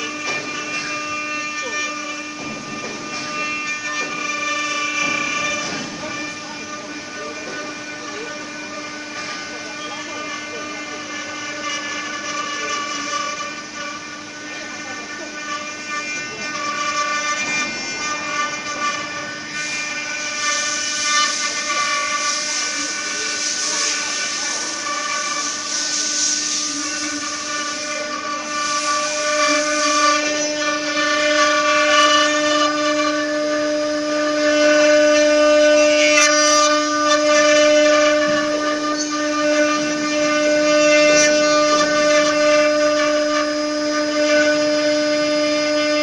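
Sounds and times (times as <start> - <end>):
hiss of wood cutting: 0.0 - 46.0
router spindles whining: 0.0 - 46.0.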